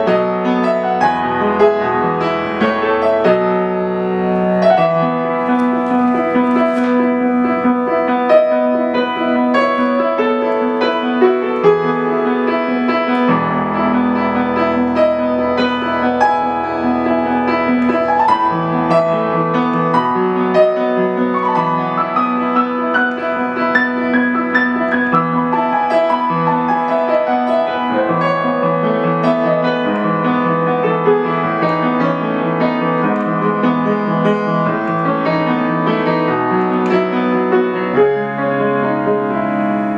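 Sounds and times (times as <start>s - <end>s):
solo piano piece: 0.0s - 39.9s.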